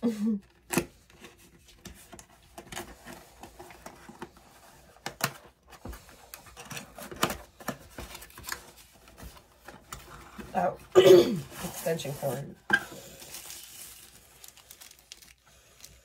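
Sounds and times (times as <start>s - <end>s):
wrapping rustling and crinkling: 0.4s - 16.0s.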